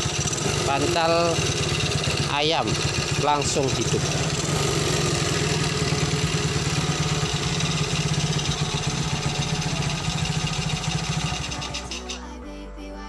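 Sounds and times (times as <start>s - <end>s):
small motorcycle engine idling: 0.0s - 12.2s.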